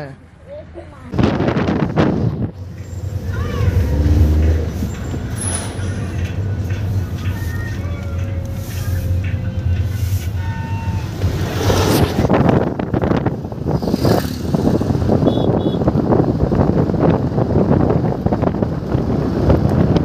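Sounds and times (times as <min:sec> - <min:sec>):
wind rushing through window: 0:01.0 - 0:20.0
car engine and tyre drone: 0:01.1 - 0:20.0.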